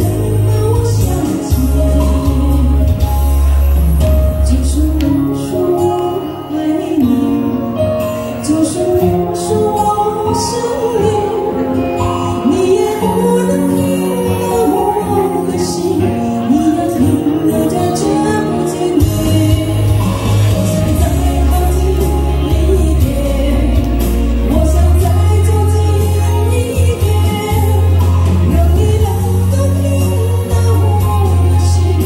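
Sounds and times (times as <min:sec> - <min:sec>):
karaoke backing track: 0:00.0 - 0:32.0
woman singing into microphone: 0:00.0 - 0:32.0.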